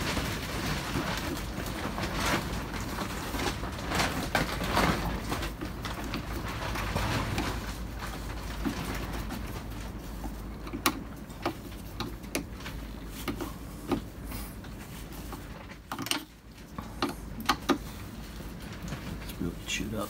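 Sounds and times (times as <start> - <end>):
handling rustle: 0.0 - 20.0.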